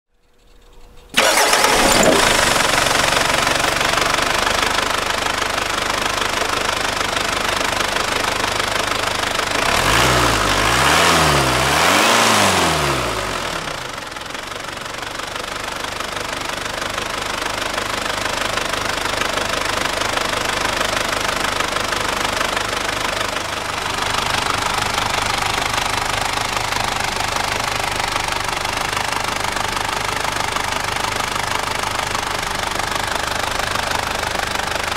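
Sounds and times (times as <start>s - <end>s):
diesel engine idling and revving: 0.5s - 34.9s.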